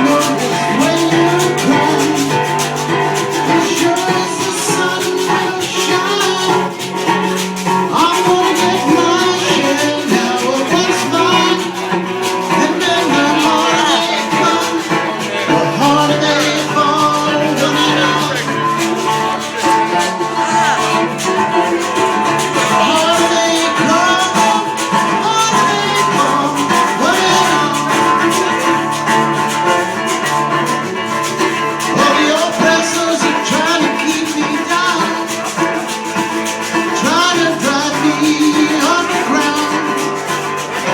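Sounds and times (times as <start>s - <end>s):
guitar playing: 0.0s - 40.9s
reggae band playing: 0.0s - 40.9s
shaker rhythm: 0.0s - 40.9s.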